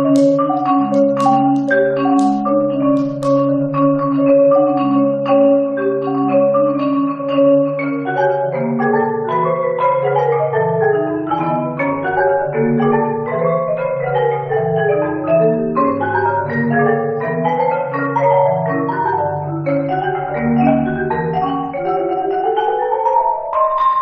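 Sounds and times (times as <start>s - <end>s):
marimbas playing: 0.0s - 24.0s.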